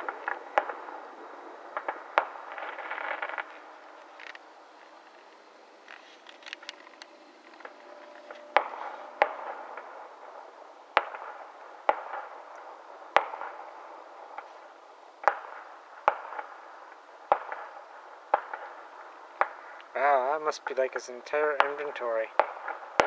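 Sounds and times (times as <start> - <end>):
fireworks bangs with echo: 0.0 - 4.3, 7.5 - 23.0.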